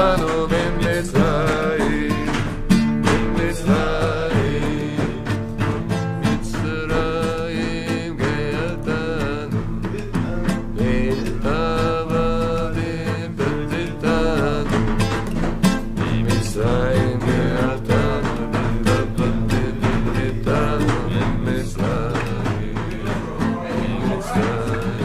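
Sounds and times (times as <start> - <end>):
men singing together: 0.0 - 25.0
strummed acoustic guitar: 0.0 - 25.0.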